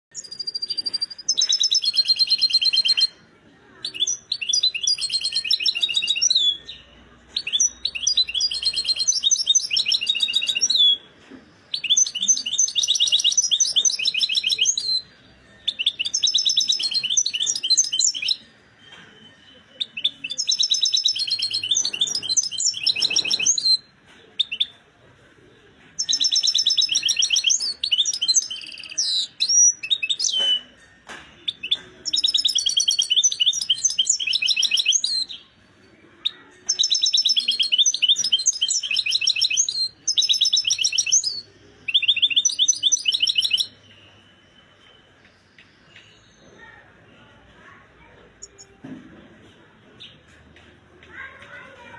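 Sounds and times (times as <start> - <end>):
finch singing high twittering song: 0.1 - 3.2, 3.8 - 11.0, 11.7 - 18.5, 19.2 - 24.7, 26.0 - 30.7, 31.5 - 35.5, 36.2 - 46.5.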